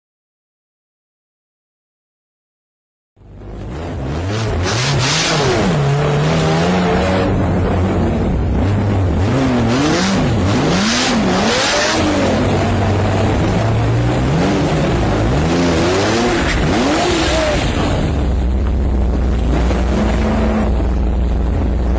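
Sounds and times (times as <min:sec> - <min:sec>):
sports car engine revving: 0:03.3 - 0:21.9.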